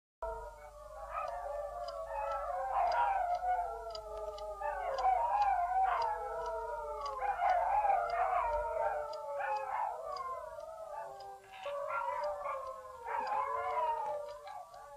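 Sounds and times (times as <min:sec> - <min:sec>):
dogs howling: 0:00.2 - 0:14.9.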